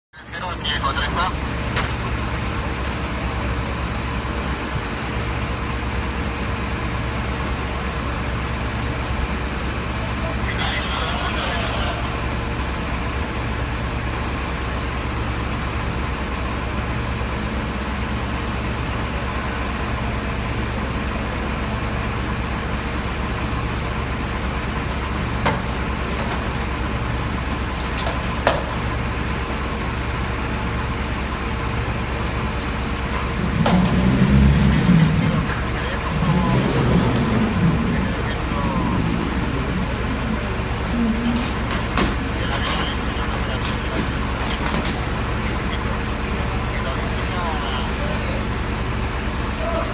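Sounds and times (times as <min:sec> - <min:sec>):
diesel truck engine running: 0:00.2 - 0:49.9.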